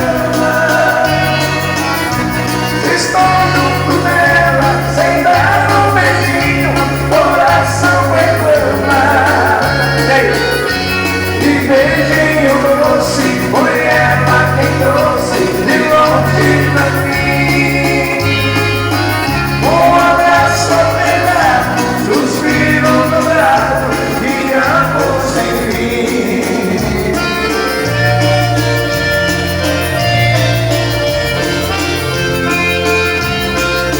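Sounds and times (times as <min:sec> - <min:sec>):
bass stepping between notes: 0:00.0 - 0:33.9
dance band playing a waltz: 0:00.0 - 0:33.9.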